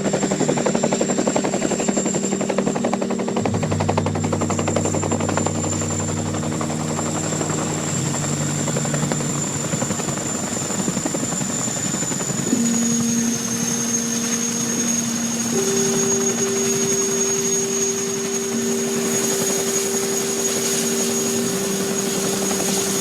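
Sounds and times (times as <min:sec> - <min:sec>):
helicopter rotors chopping: 0:00.0 - 0:23.0
high turbine whine: 0:00.0 - 0:23.0.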